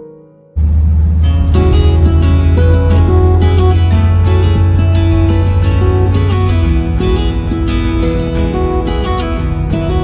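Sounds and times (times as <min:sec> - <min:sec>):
acoustic guitar strumming: 0:00.6 - 0:10.0.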